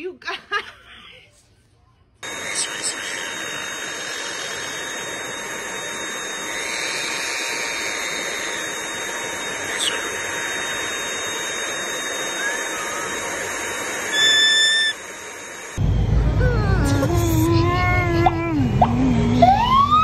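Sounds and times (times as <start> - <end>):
stick vacuum cleaner running: 2.2 - 20.0.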